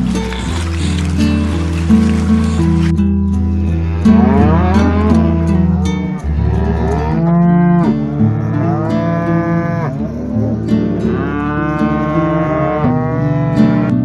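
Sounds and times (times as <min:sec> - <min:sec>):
cattle mooing: 0:00.2 - 0:02.9, 0:03.5 - 0:14.0.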